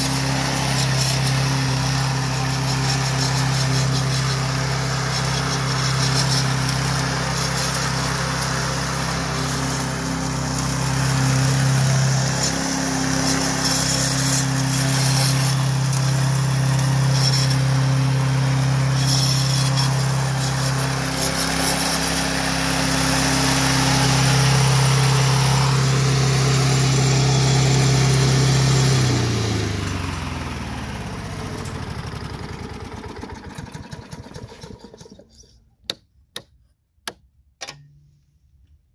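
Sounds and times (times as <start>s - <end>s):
lawnmower engine running: 0.0s - 35.5s.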